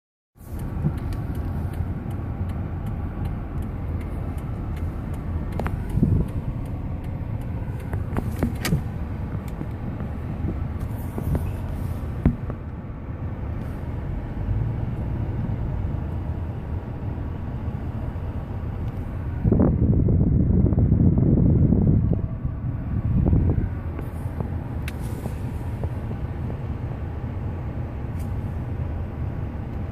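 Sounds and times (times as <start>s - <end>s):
traffic rumble: 0.4s - 29.9s.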